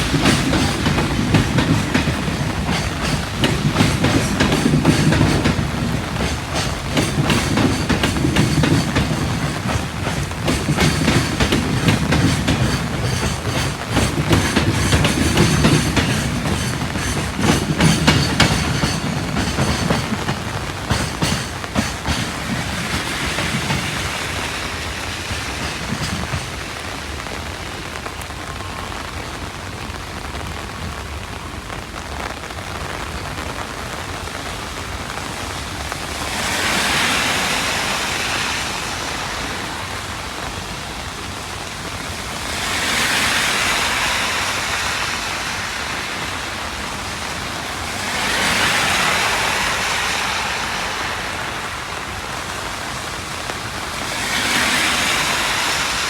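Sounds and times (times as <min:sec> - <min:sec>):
loud hiss: 0:00.0 - 0:27.8, 0:34.6 - 0:56.0
heavy rain falling: 0:00.0 - 0:56.0.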